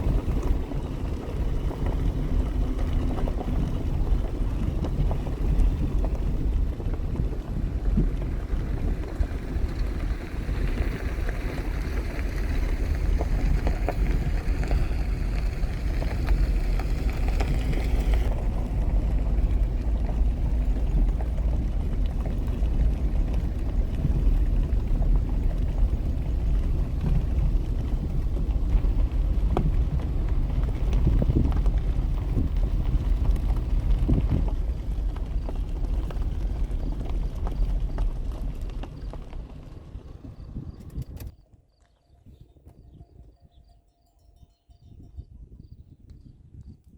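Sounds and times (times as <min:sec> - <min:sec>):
steady outdoor rush: 0:00.0 - 0:41.4
wind rumbling on microphone: 0:00.0 - 0:46.9.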